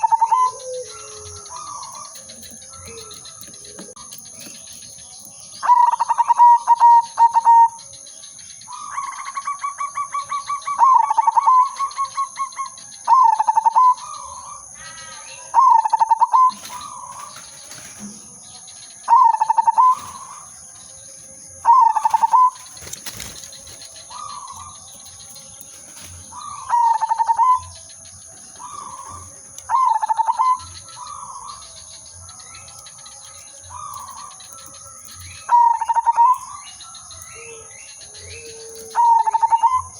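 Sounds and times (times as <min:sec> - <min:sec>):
dove cooing: 0:00.0 - 0:07.9, 0:08.7 - 0:20.6, 0:21.6 - 0:32.0, 0:32.9 - 0:36.6, 0:37.4 - 0:39.9.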